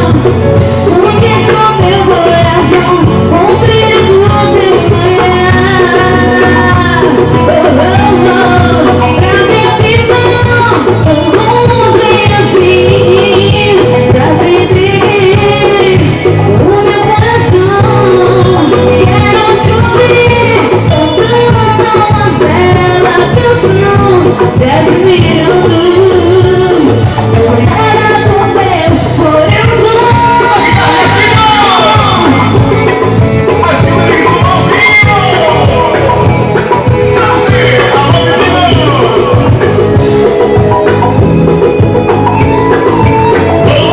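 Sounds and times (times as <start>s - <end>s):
live band music: 0.0s - 43.9s
woman singing into microphone: 0.0s - 43.9s.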